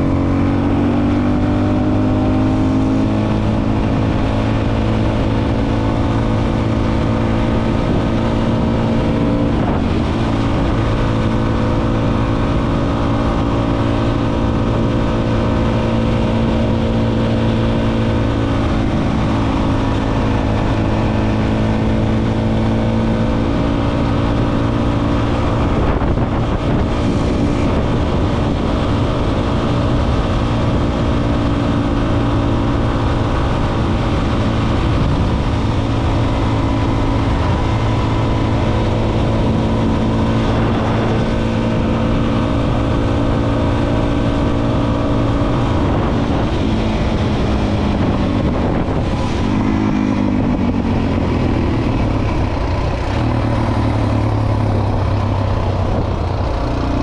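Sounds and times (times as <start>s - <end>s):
motorcycle engine cruising: 0.0s - 57.0s
wind noise on microphone: 0.0s - 57.0s.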